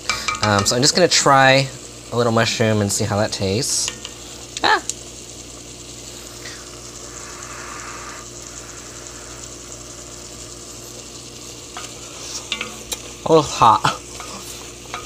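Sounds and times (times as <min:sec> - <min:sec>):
mushrooms sizzling in a pot: 0:00.0 - 0:15.0
steady low hum: 0:00.0 - 0:15.0.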